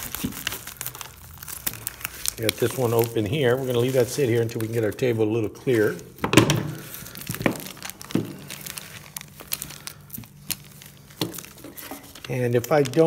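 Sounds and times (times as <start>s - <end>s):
plastic coin bags crinkling: 0.0s - 13.0s.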